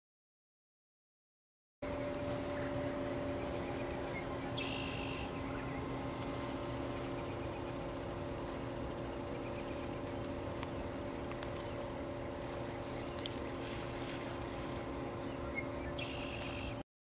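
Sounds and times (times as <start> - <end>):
constant low hum: 1.8 - 16.8.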